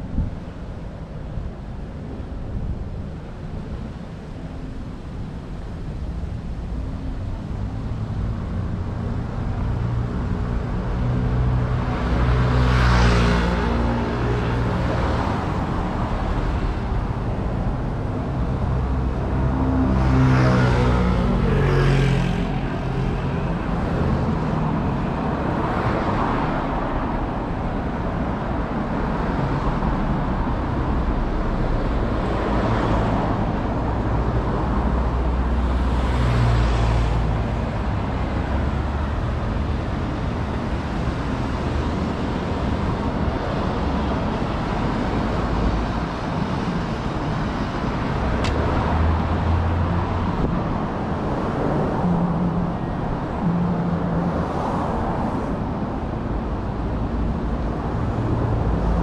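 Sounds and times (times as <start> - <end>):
vehicles passing close by: 0.0 - 59.0.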